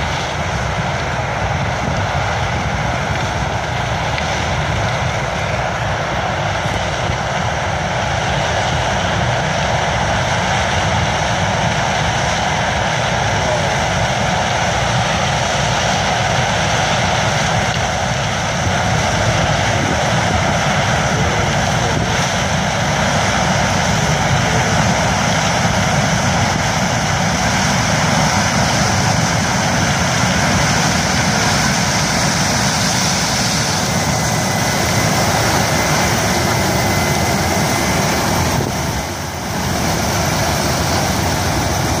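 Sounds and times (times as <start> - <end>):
combine harvester cutting corn: 0.0 - 42.0
tractor diesel engine: 0.0 - 42.0.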